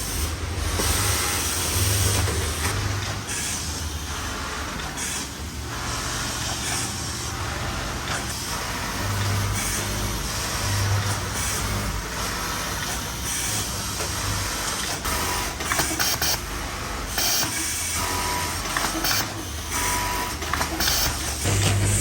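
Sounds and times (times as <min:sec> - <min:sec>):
machinery clicks and clatter: 0:00.0 - 0:22.0
sewing machines humming: 0:00.0 - 0:22.0.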